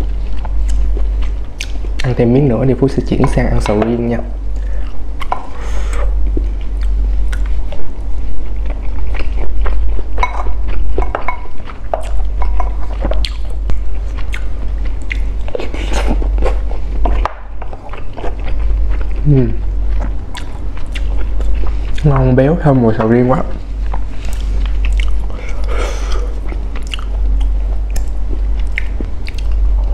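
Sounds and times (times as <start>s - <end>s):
low steady hum: 0.0s - 29.9s
person chewing sticky food: 0.0s - 29.9s.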